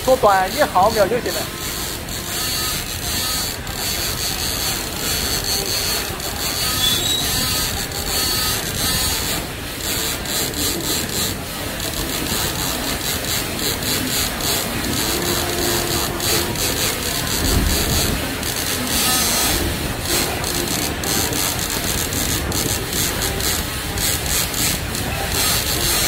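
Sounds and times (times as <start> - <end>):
dispensing machine running: 0.0 - 26.0
quick mechanical ticks: 0.0 - 26.0.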